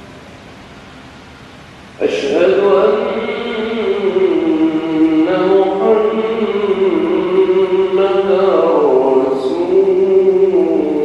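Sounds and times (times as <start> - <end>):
man chanting call to prayer: 2.0 - 11.0.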